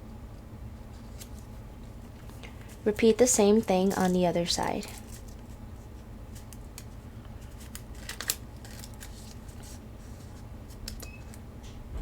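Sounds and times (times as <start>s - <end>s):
low steady hum: 0.0s - 12.0s
paper crinkling and rustling: 0.9s - 11.0s.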